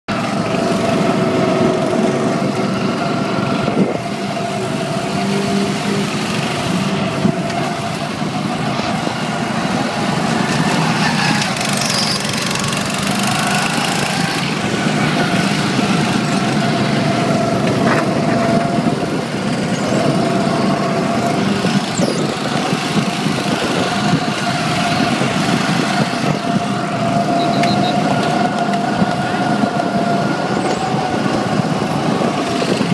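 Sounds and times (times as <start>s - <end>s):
go-kart engine drone: 0.1s - 32.9s.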